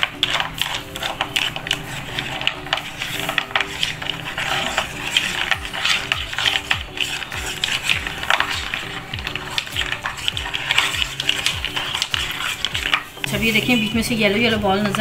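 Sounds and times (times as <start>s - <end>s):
plastic balls knocking together: 0.0s - 15.0s
spoon scraping nonstick pan: 0.0s - 15.0s.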